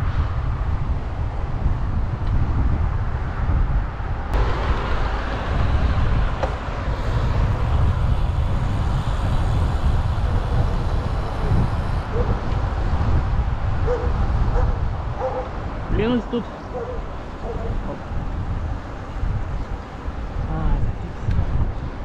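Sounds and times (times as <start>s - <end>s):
road noise low rumble: 0.0s - 22.0s
wind buffeting microphone: 0.0s - 22.0s.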